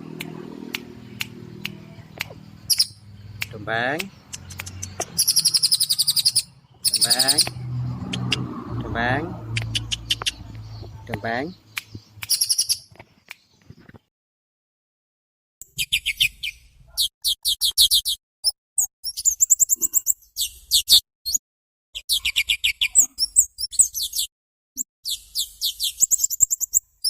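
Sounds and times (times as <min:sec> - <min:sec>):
songbird chattering song: 0:00.0 - 0:13.7, 0:15.6 - 0:21.4, 0:22.0 - 0:24.3, 0:25.0 - 0:27.0.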